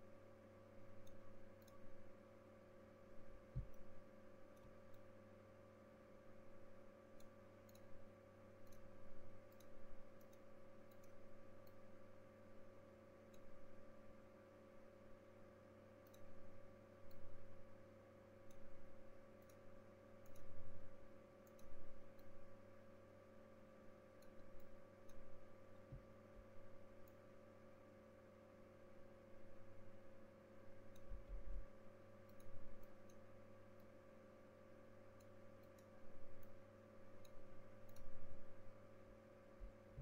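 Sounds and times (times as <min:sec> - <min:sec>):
steady electrical hum: 0:00.0 - 0:40.0.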